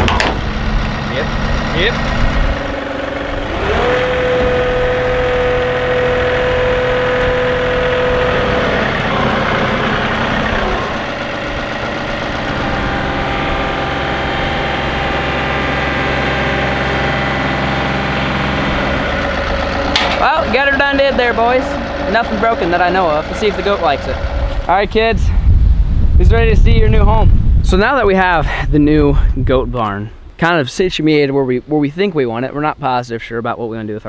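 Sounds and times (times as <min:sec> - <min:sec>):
tractor diesel engine under load: 0:00.0 - 0:29.5.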